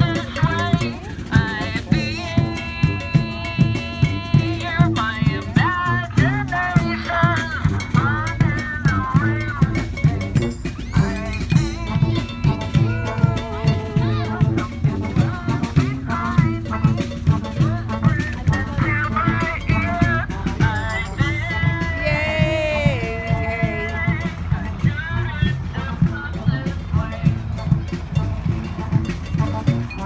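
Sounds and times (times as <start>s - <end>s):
driving drum beat: 0.0s - 30.0s
held horn lines: 0.0s - 30.0s.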